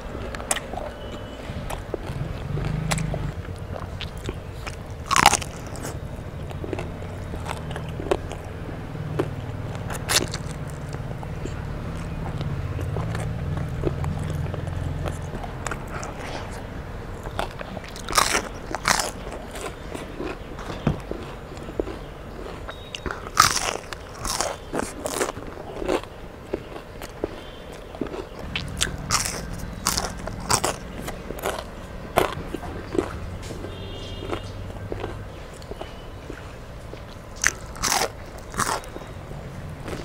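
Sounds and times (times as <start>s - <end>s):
chewing crunchy fried fish: 0.0s - 40.0s.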